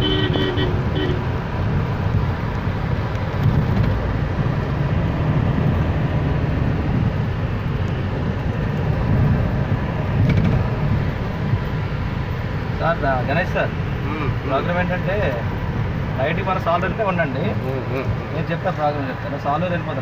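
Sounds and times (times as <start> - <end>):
vehicle interior rumble: 0.0 - 20.0.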